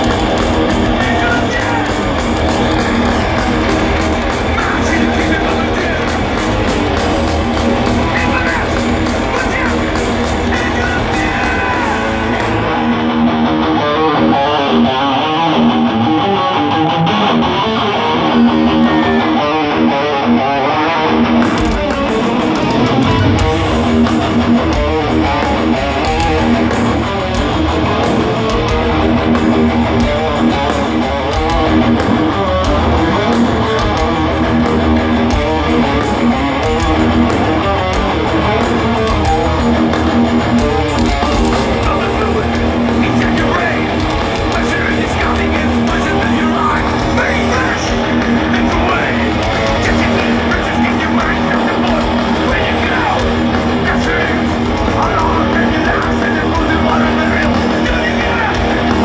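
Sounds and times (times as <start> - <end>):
live thrash metal: 0.0 - 59.0.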